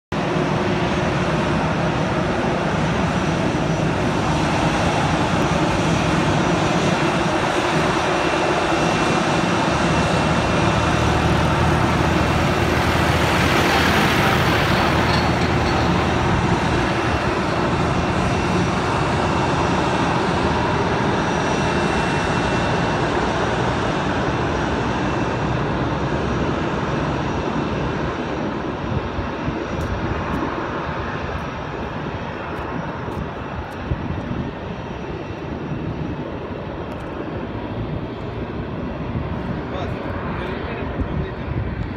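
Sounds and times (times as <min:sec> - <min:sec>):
jet engines whining: 0:00.2 - 0:41.9.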